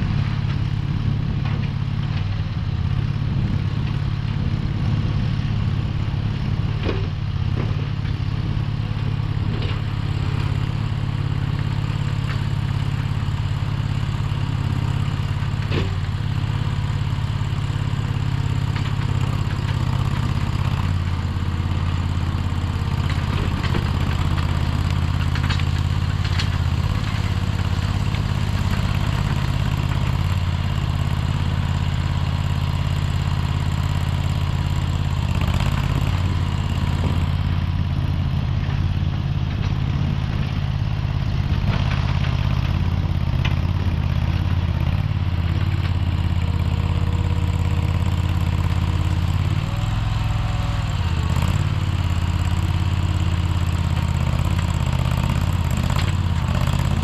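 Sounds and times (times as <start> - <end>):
skid steer engine idling: 0.0 - 57.0.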